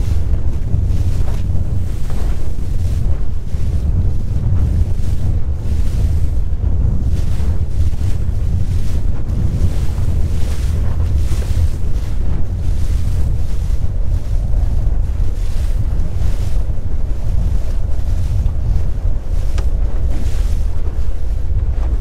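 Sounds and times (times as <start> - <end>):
water washing around a boat: 0.0 - 22.0
wind buffeting the microphone: 0.0 - 22.0.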